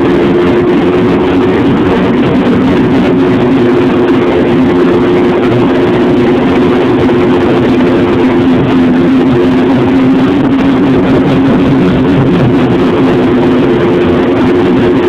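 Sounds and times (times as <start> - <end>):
dense rushing noise: 0.0 - 15.0
snowmobile engine droning: 0.0 - 15.0.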